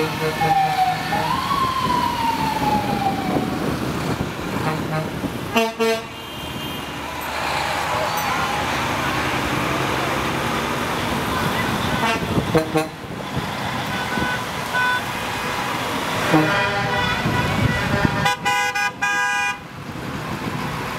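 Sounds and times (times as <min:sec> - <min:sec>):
fire truck siren: 0:00.0 - 0:19.6
truck engines running: 0:00.0 - 0:20.9.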